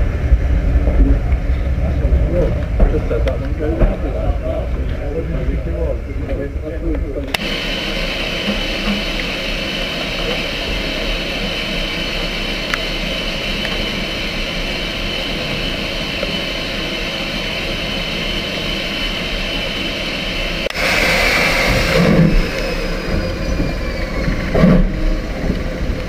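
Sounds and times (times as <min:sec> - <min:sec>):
low rumble: 0:00.0 - 0:26.0
steam hissing from locomotives: 0:00.0 - 0:26.0.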